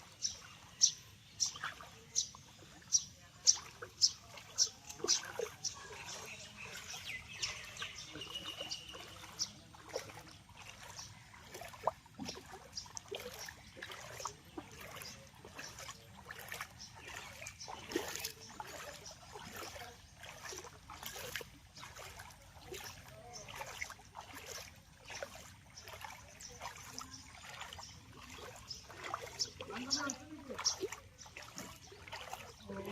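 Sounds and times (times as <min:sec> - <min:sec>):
floodwater splashing and trickling: 0:00.0 - 0:32.9.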